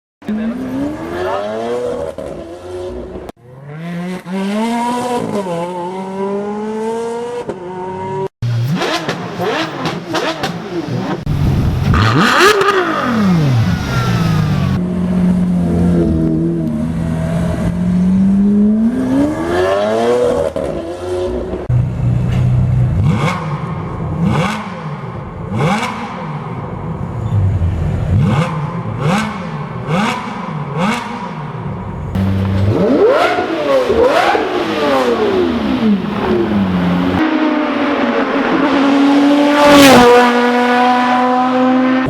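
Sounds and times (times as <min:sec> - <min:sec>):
supercar engines revving: 0:00.2 - 0:42.0.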